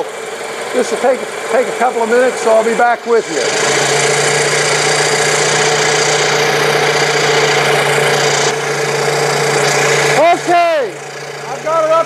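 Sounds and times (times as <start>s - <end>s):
engine running at raised speed: 0.0s - 12.0s.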